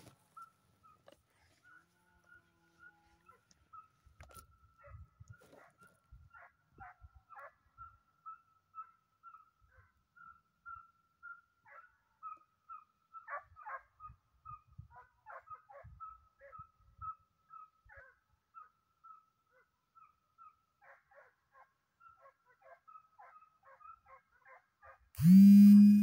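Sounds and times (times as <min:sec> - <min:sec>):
distant dogs barking: 0:00.3 - 0:04.0, 0:04.7 - 0:25.1.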